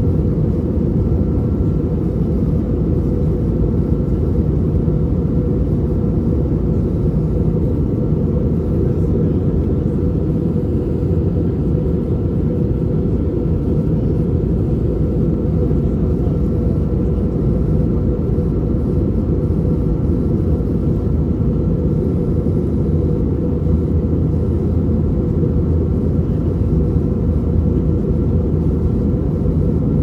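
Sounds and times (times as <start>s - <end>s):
airplane cabin rumble: 0.0s - 30.0s
faint steady whine: 0.0s - 30.0s.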